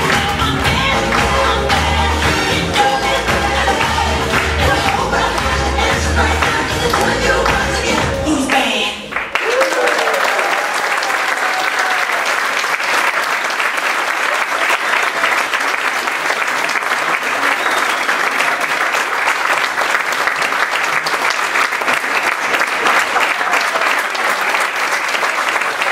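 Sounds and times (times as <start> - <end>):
audience applauding: 0.0 - 8.1, 9.1 - 25.9.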